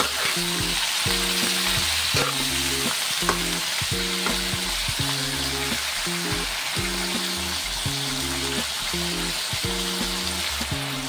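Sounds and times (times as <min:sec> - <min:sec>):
background music: 0:00.0 - 0:11.0
food sizzling in a wok: 0:00.0 - 0:11.0.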